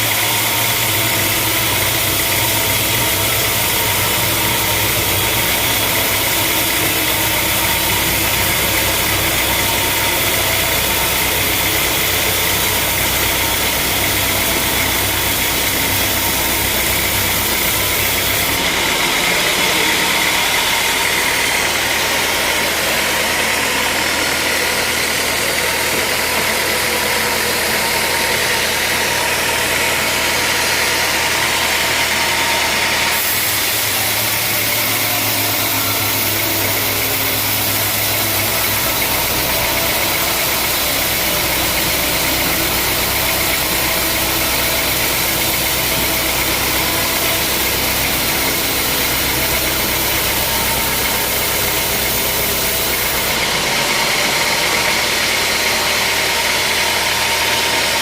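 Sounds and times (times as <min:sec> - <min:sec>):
sawmill machinery humming: 0:00.0 - 0:58.0.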